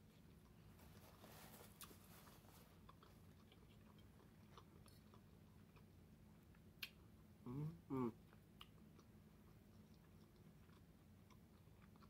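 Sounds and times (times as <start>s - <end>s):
faint chewing: 0.0s - 7.2s, 8.2s - 12.0s.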